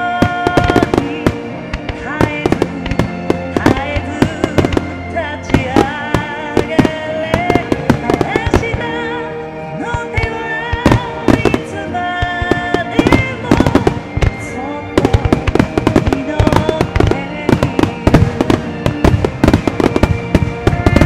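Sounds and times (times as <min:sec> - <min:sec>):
fireworks bursting: 0:00.0 - 0:21.0
loud music: 0:00.0 - 0:21.0.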